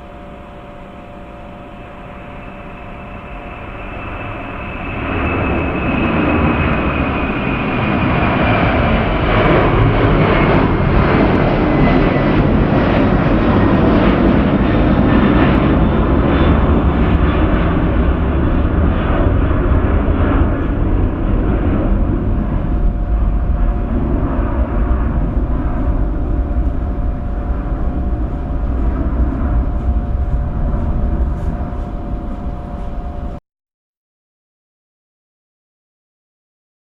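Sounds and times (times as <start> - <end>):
jet engine roar with whine: 0.0 - 33.4.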